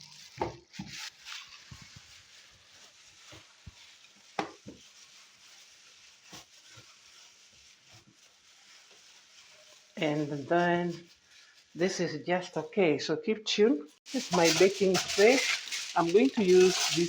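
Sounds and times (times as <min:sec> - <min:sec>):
wet mixing of ground meat: 0:00.0 - 0:11.9, 0:14.1 - 0:17.0.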